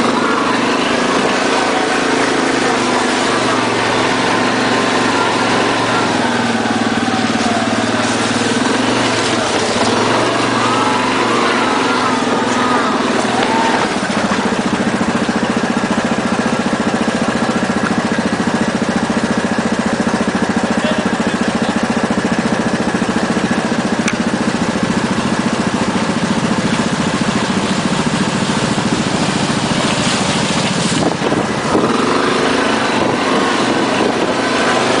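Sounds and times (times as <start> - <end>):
engine running at low revs: 0.0 - 35.0.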